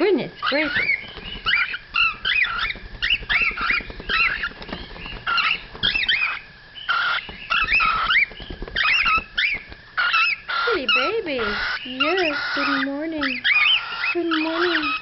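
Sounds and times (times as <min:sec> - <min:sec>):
chicks chirping: 0:00.0 - 0:15.0.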